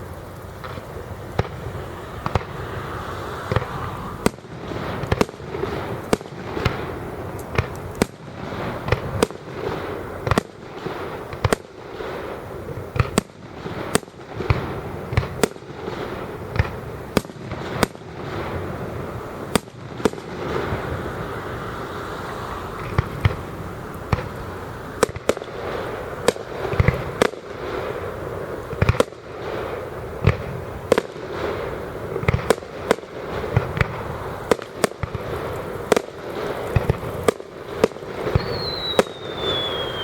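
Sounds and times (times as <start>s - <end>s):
fireworks bangs: 0.0s - 40.0s
steady background noise: 0.0s - 40.0s.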